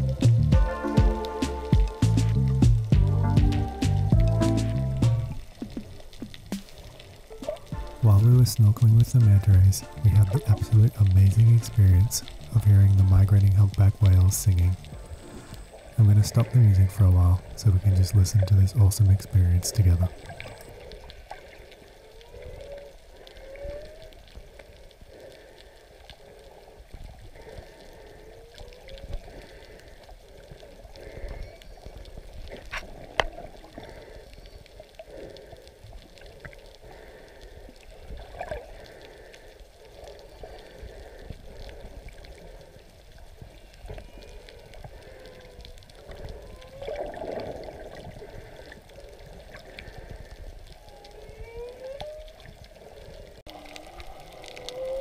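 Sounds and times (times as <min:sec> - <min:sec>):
low watery rumble: 0:00.0 - 0:55.0
whale song moans underwater: 0:07.0 - 0:36.8, 0:37.7 - 0:55.0.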